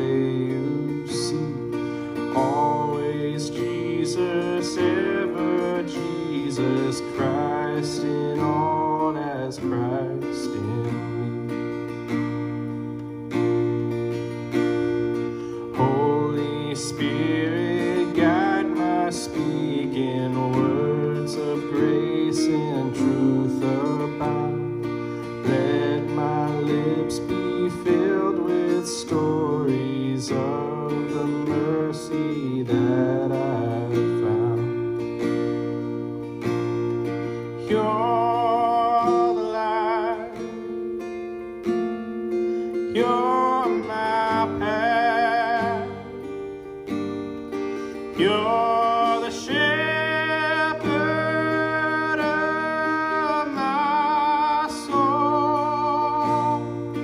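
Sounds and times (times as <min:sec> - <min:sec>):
strummed acoustic guitar music: 0:00.0 - 0:57.0.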